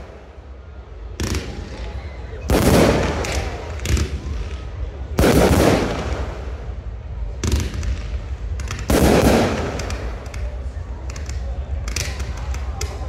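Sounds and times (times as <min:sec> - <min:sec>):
fireworks bangs with rumbling echo: 0:00.0 - 0:13.0
small firework cracks: 0:01.2 - 0:06.5, 0:07.4 - 0:13.0.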